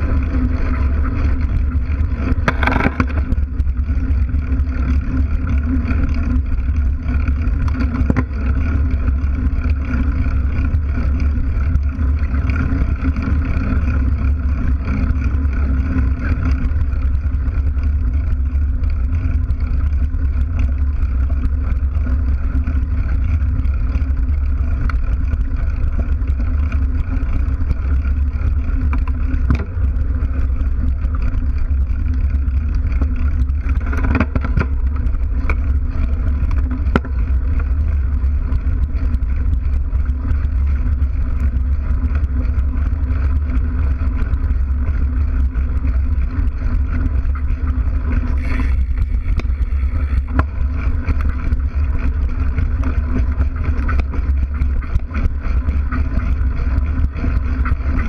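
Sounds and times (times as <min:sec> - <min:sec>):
bike tyre rumbling: 0:00.0 - 0:58.0.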